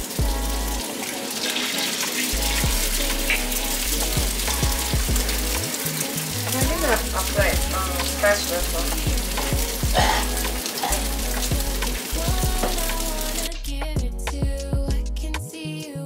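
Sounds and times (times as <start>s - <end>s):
background music with bass: 0.0s - 0.9s, 2.3s - 16.0s
sausages sizzling in a pan: 0.0s - 13.5s.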